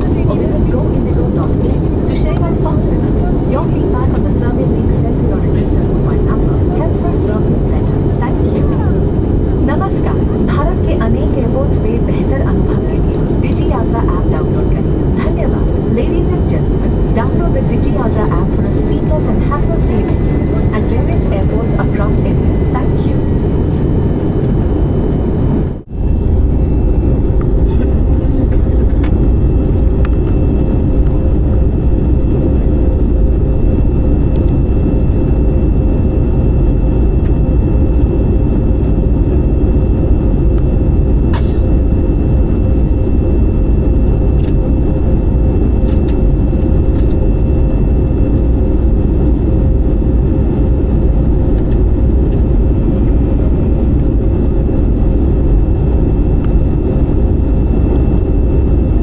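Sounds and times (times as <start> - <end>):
constant hum: 0.0 - 59.0
jet cabin rumble: 0.0 - 59.0.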